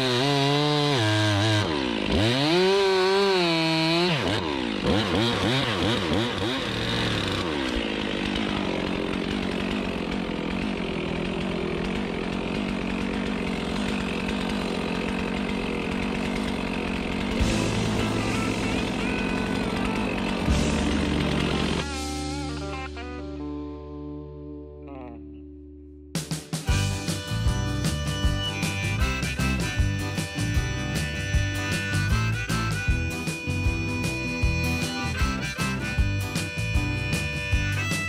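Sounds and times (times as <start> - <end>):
chainsaw cutting wood: 0.0 - 23.5, 26.2 - 38.0.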